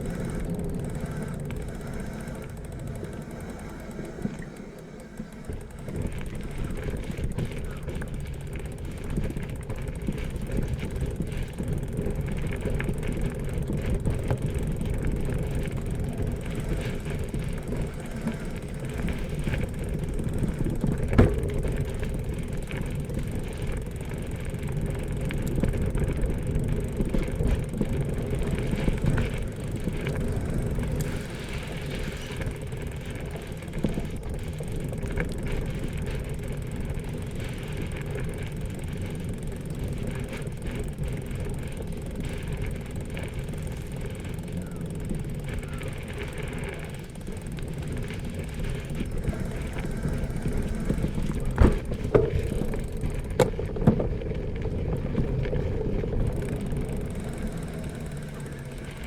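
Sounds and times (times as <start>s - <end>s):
bicycle rolling on road: 0.0s - 59.0s.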